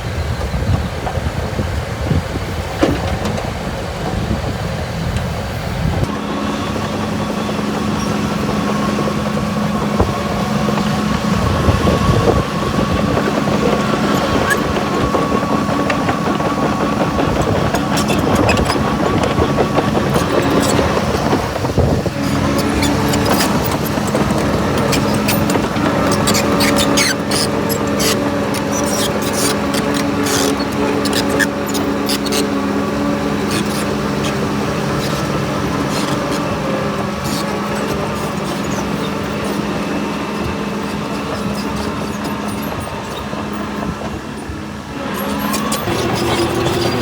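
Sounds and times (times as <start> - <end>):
diesel machine engine running: 0.0 - 47.0
clanks and rattles: 6.8 - 47.0.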